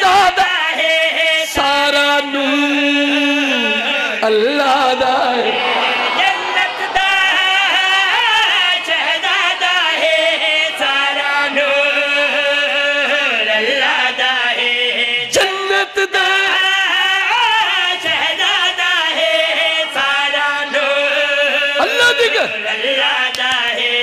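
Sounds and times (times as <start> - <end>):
man chanting devotional poem: 0.0 - 24.0.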